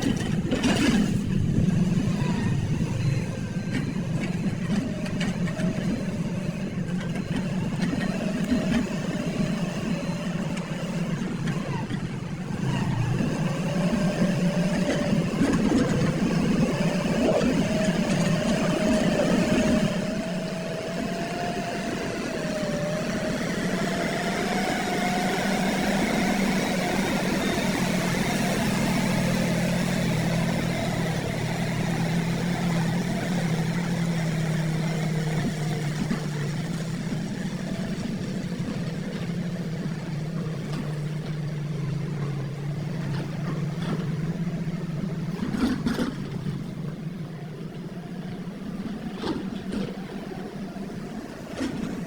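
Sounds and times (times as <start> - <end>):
heavy diesel machinery engine running: 0.0 - 52.0.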